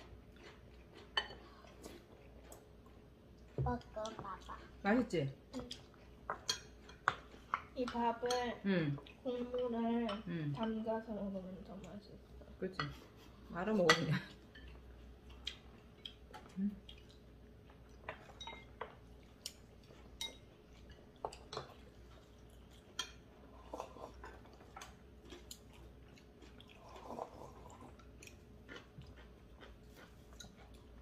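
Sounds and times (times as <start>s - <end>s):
soft chewing: 0.0s - 31.0s.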